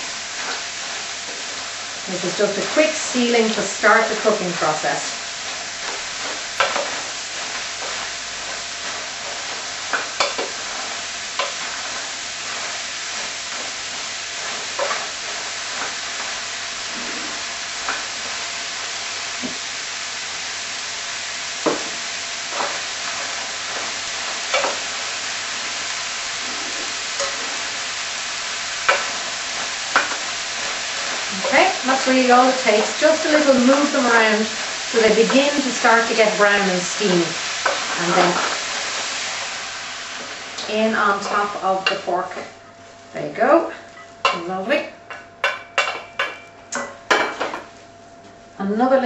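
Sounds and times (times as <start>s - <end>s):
vegetables sizzling in a frying pan: 0.0s - 49.0s.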